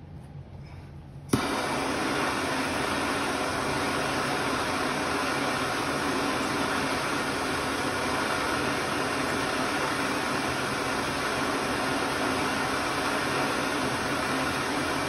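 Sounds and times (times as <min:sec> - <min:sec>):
gas torch hissing: 0:01.3 - 0:15.0.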